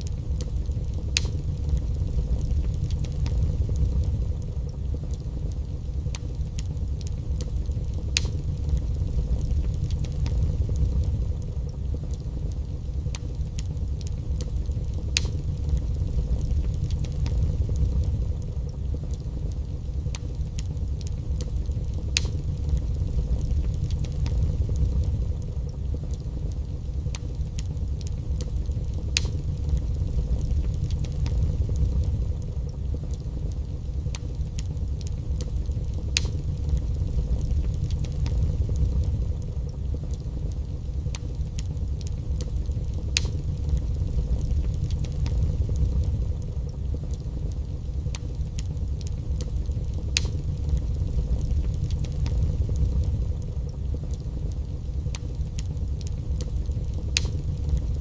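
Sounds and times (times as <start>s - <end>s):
fire crackles and pops: 0.0s - 58.0s
fire flames rumbling: 0.0s - 58.0s.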